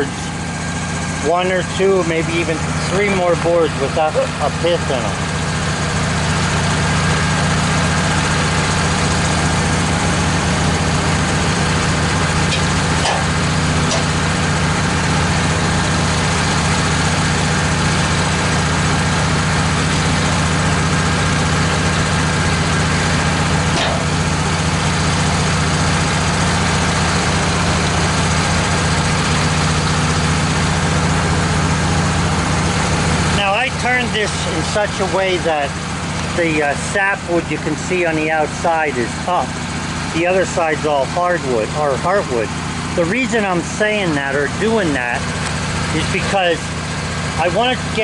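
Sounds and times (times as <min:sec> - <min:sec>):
sawmill engine running: 0:00.0 - 0:48.0.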